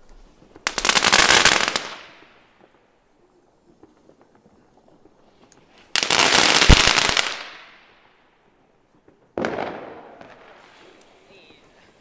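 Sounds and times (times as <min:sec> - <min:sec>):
fireworks crackling bangs: 0:00.0 - 0:12.0.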